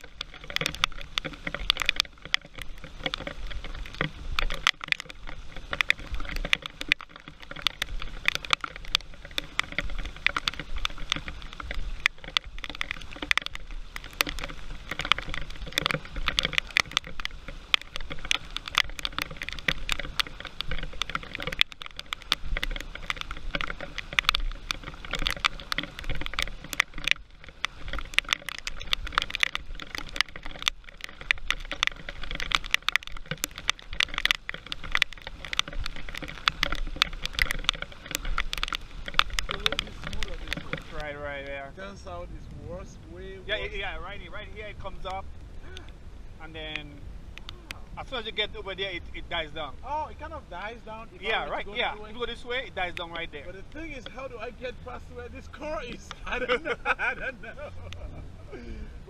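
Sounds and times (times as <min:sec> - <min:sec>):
heavy rain pattering: 0:00.0 - 0:59.0
raindrop clicks: 0:00.0 - 0:59.0.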